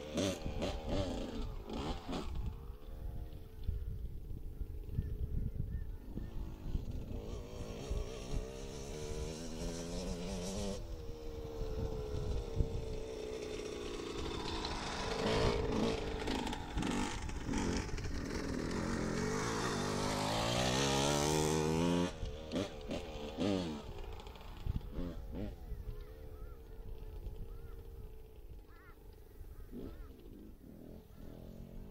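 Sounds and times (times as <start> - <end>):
dirt bike engine revving: 0.0 - 5.2, 6.0 - 31.9.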